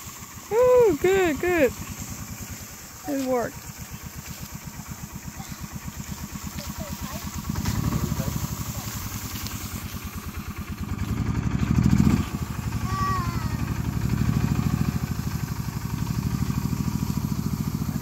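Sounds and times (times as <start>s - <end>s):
small engine pulsing chug: 0.0s - 18.0s
tree dragging across grass: 1.0s - 18.0s.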